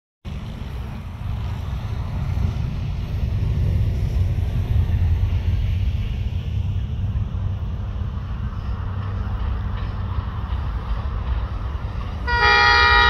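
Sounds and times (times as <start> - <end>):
distant train approaching: 0.3 - 13.0
wind buffeting microphone: 0.3 - 13.0.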